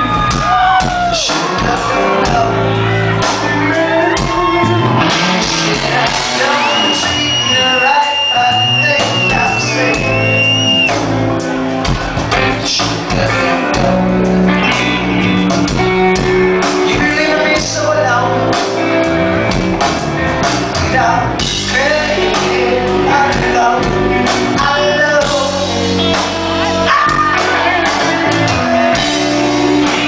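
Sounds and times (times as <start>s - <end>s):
person singing: 0.0s - 11.1s, 12.3s - 19.1s, 20.7s - 30.0s
rock band playing live: 0.0s - 30.0s.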